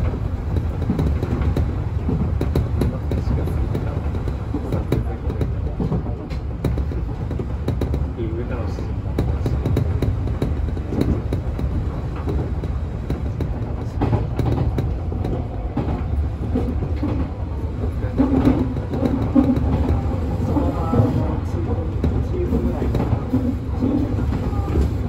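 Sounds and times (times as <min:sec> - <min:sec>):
train wheels rumbling on rails: 0:00.0 - 0:25.0
wheels clicking over rail joints: 0:00.0 - 0:25.0.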